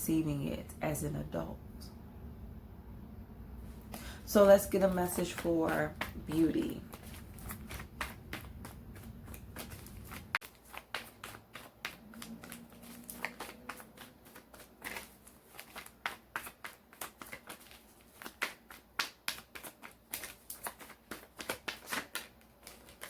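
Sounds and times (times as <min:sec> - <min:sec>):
cards being shuffled: 0:03.8 - 0:23.0.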